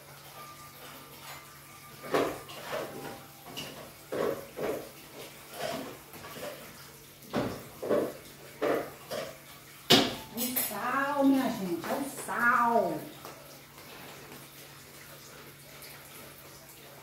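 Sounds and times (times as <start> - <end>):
pots and utensils clinking and scraping: 0.0 - 17.0.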